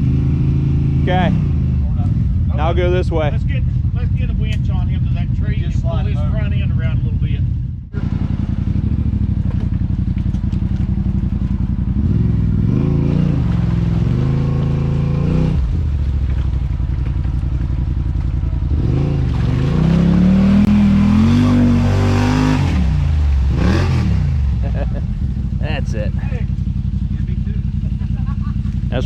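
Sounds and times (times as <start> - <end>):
utility vehicle engine revving: 0.0 - 29.0.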